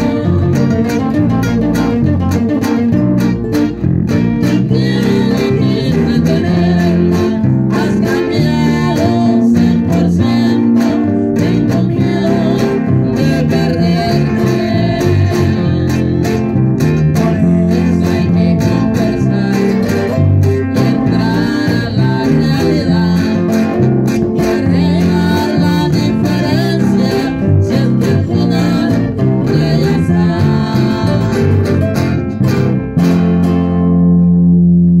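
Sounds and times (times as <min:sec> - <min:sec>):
acoustic guitars strumming: 0:00.0 - 0:35.0
electric bass: 0:00.0 - 0:35.0.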